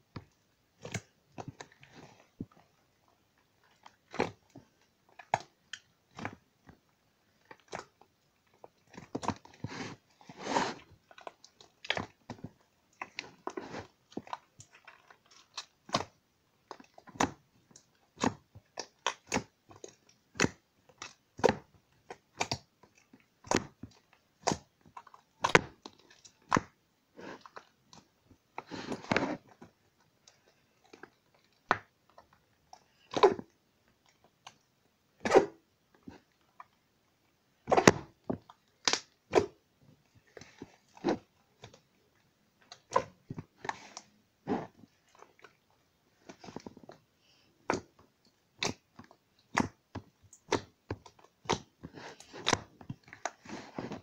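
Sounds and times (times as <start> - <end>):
slime squelching: 0.1 - 54.0.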